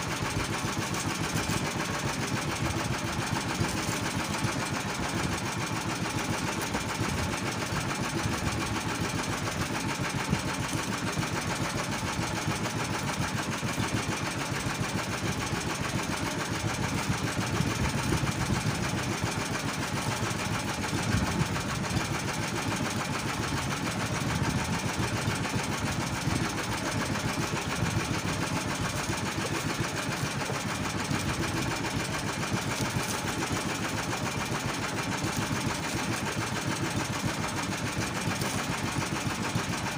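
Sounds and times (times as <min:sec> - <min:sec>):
boat engine idling: 0:00.0 - 0:39.9.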